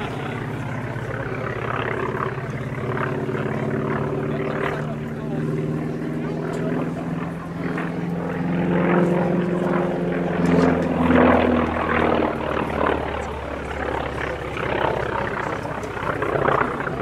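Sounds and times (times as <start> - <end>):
radial aircraft engine and propeller: 0.0 - 17.0.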